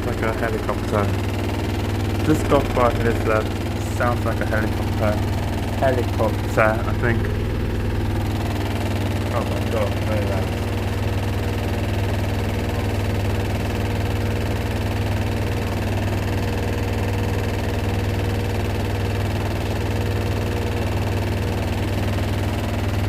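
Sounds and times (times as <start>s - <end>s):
washing machine spinning: 0.0s - 23.0s.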